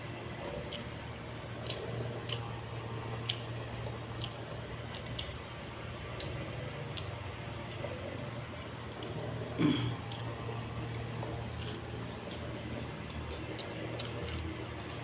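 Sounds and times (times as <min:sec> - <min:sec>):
steady low hum: 0:00.0 - 0:15.0
person chewing raw vegetables: 0:00.3 - 0:15.0.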